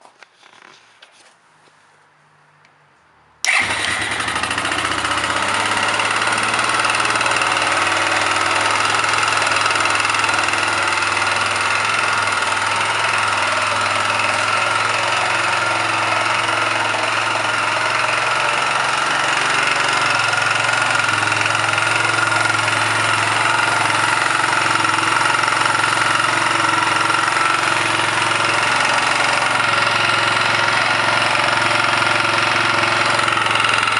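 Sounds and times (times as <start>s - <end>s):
atv engine idling: 3.4s - 33.9s.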